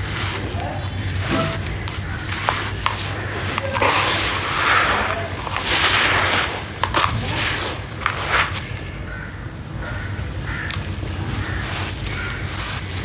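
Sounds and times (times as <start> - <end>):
gritty crumbling in water: 0.0 - 9.6, 10.6 - 13.0.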